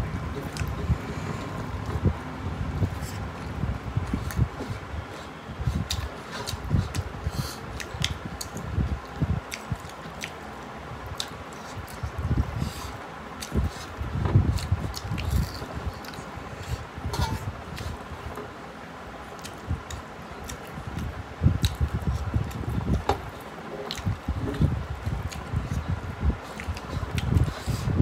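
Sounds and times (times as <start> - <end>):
wet squishing and chewing: 0.4 - 2.1, 2.8 - 12.5, 13.3 - 18.0, 19.3 - 27.9.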